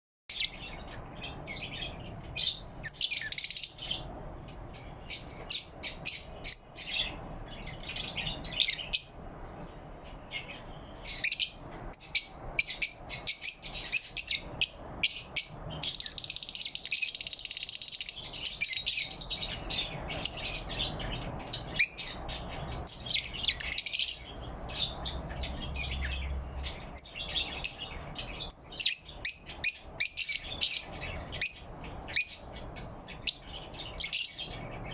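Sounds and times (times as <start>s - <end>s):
lovebirds chirping: 0.3s - 34.9s.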